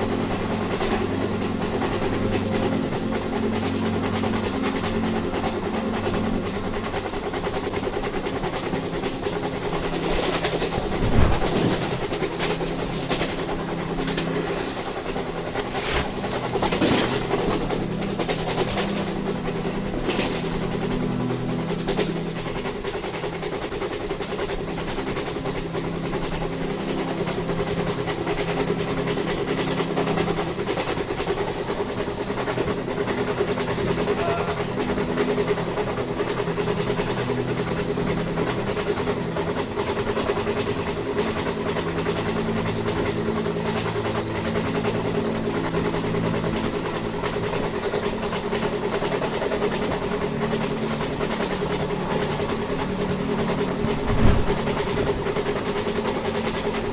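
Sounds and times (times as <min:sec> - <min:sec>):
train rumbling on rails: 0:00.0 - 0:56.9.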